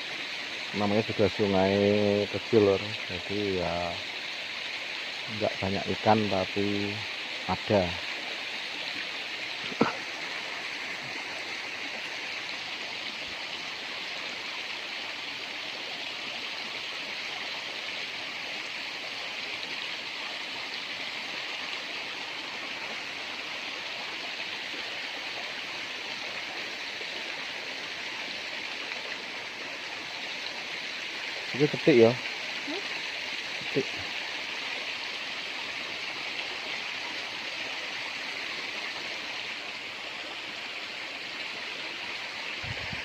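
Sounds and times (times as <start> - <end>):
river water rushing: 3.0 - 43.0.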